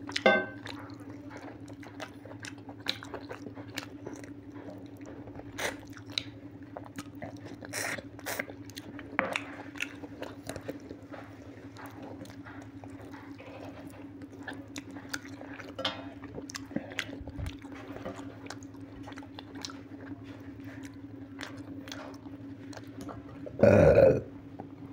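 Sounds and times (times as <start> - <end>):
man chewing with wet mouth smacks: 0.0 - 23.6.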